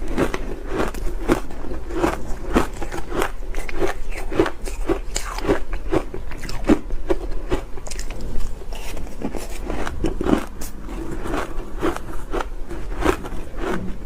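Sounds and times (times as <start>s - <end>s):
person chewing ice: 0.0s - 14.0s.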